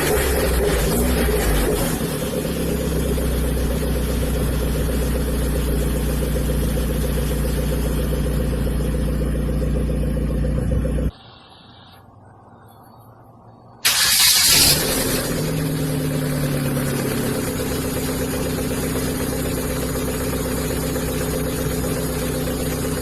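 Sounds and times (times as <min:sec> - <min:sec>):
car engine running: 0:00.0 - 0:11.1, 0:13.9 - 0:23.0.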